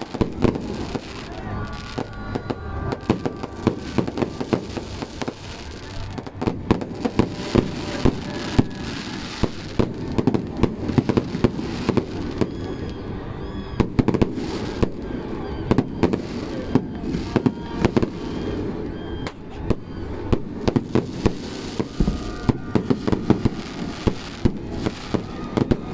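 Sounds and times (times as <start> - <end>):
fireworks bangs and crackles: 0.0 - 25.9.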